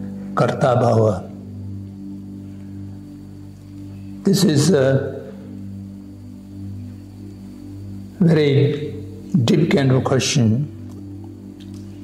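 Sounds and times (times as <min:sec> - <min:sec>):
low drone of held tones: 0:00.0 - 0:12.0.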